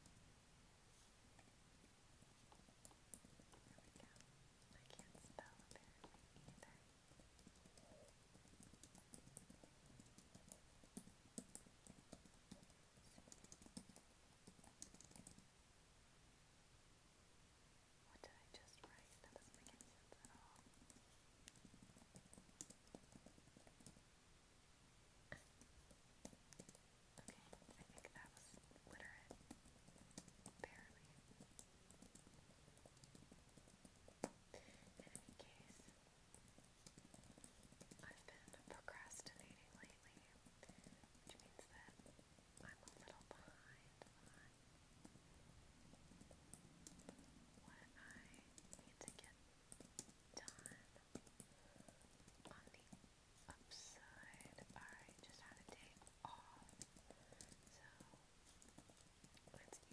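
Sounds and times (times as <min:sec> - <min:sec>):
computer keyboard typing: 0:02.5 - 0:15.4, 0:18.9 - 0:24.0, 0:25.5 - 0:35.7, 0:36.3 - 0:53.0, 0:53.6 - 0:59.9.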